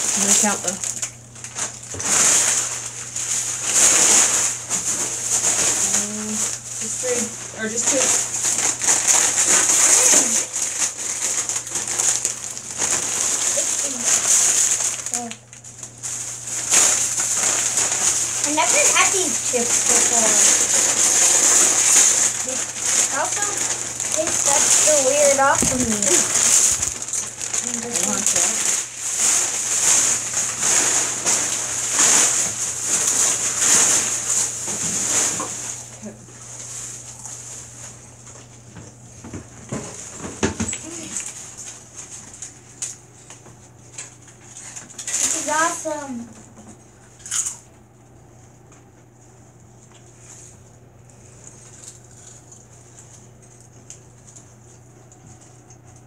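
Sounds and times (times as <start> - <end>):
chips rustling: 0.0 - 38.0, 39.7 - 46.2, 51.1 - 56.0
potato chips crunching: 0.0 - 39.0, 39.9 - 46.2, 46.9 - 47.7, 51.1 - 56.0.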